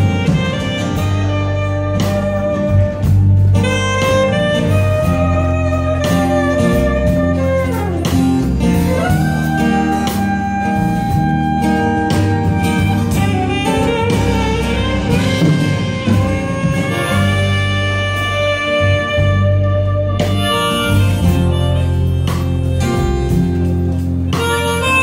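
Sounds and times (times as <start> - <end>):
acoustic guitar: 0.0 - 25.0
drums: 0.0 - 25.0
saxophone holding long notes: 0.0 - 25.0.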